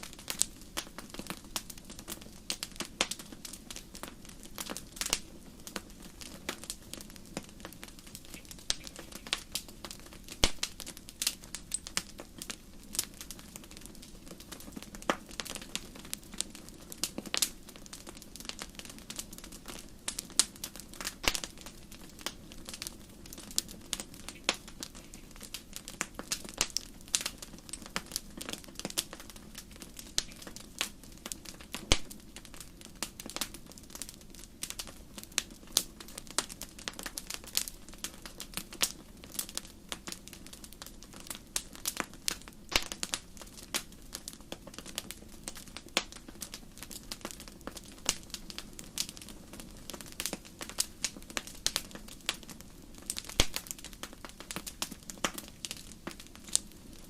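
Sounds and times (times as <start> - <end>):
campfire crackling and popping: 0.0 - 57.0
low rumble of flame: 0.0 - 57.0.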